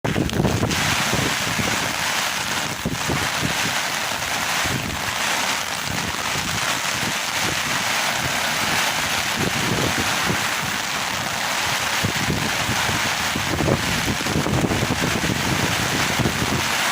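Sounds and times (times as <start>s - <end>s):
wind buffeting microphone: 0.0s - 16.9s
heavy rain hiss: 0.1s - 16.9s.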